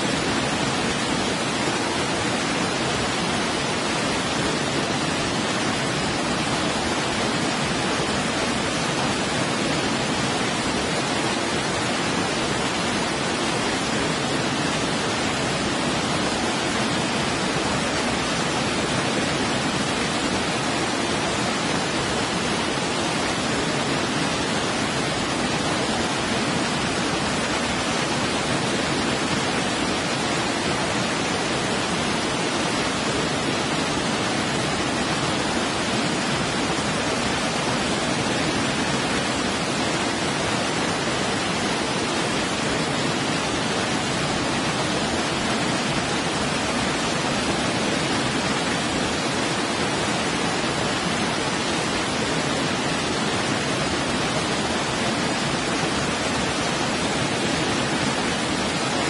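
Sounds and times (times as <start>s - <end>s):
falling water rushing: 0.0s - 59.0s.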